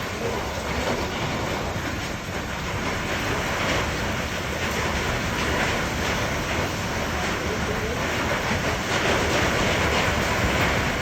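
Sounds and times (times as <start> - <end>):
hailstones clattering: 0.0 - 11.0.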